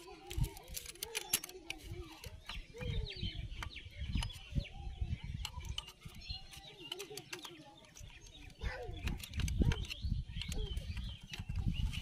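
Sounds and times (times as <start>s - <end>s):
metal tools clicking and tapping: 0.0s - 4.6s, 5.3s - 12.0s.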